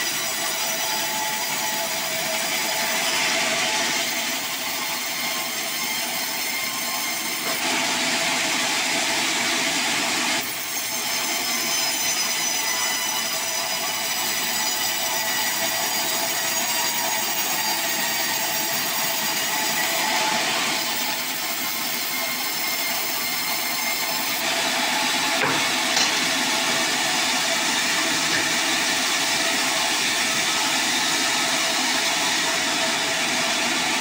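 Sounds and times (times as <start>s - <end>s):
band saw cutting log: 0.0s - 34.0s
sawmill whine: 0.0s - 34.0s.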